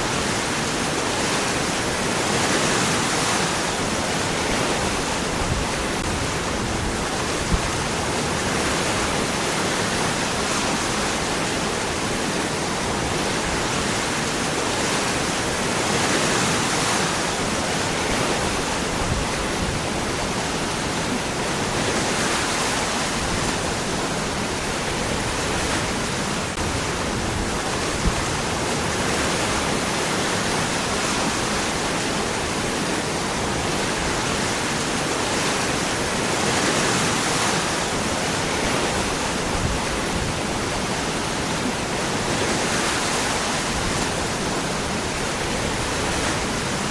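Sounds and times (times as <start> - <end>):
waterfall rushing over rocks: 0.0 - 46.9.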